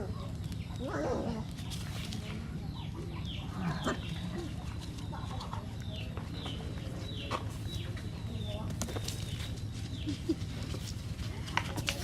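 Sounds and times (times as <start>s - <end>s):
chickens clucking: 0.0s - 12.0s
small birds chirping: 0.0s - 12.0s
steady low hum: 0.0s - 12.0s.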